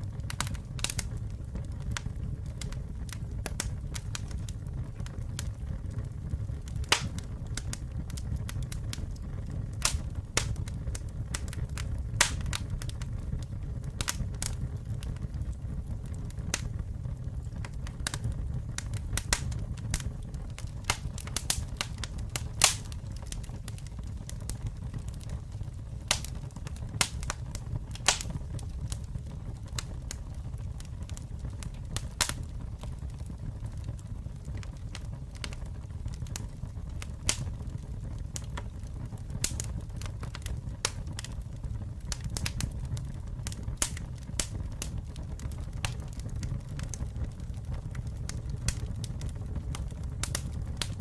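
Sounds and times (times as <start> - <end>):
low rumble of flames: 0.0 - 51.0
wood crackling and popping: 0.0 - 51.0.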